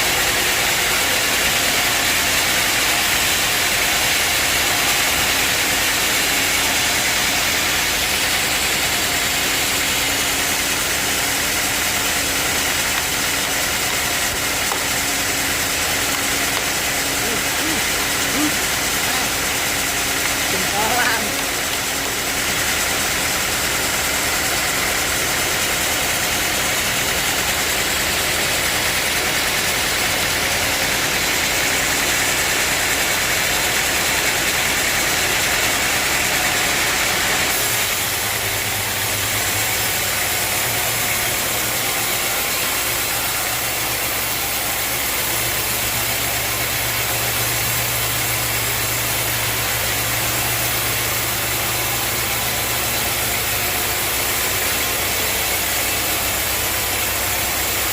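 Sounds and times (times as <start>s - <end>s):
sawmill machinery engine running: 0.0s - 57.9s.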